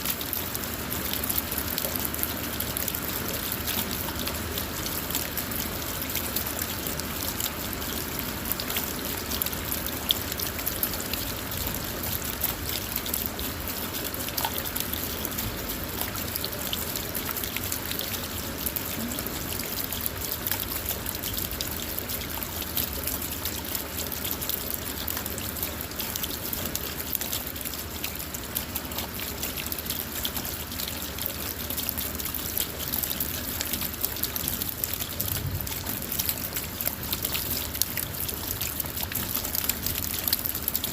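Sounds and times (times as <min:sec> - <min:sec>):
rain falling on a car: 0:00.0 - 0:40.9.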